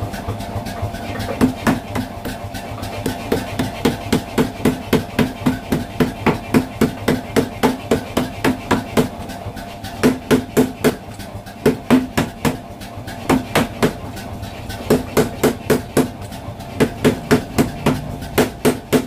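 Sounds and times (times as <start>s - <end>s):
machine hum: 0.0s - 19.0s
power hammer pounding metal: 1.1s - 19.0s.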